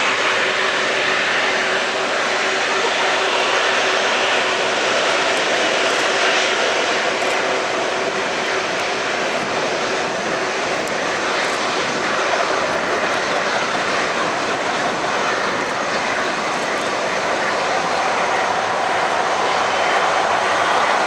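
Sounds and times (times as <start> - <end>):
airliner engines running: 0.0 - 21.0.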